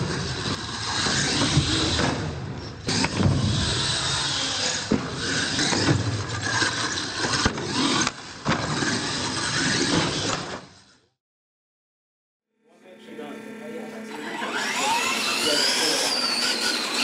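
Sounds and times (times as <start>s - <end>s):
toy truck motor and tyres rushing: 0.0s - 11.1s, 14.2s - 17.0s.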